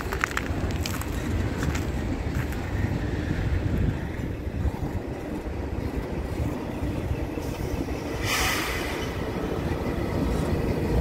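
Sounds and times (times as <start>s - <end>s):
diesel locomotive: 0.0s - 11.0s
freight train rumbling over rails: 0.0s - 11.0s.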